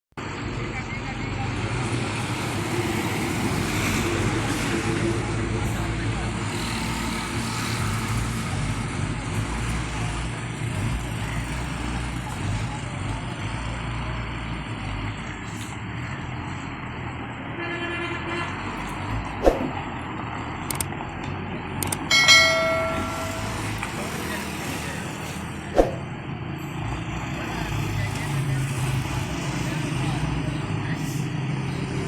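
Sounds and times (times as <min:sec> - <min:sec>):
vehicle engine rumbling: 0:00.2 - 0:32.0.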